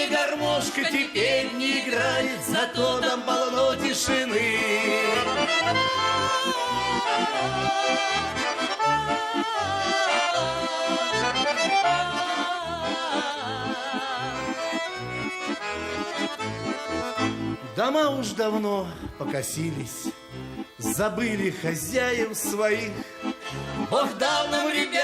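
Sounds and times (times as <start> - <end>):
accordion melody with pulsing bass: 0.0 - 25.0.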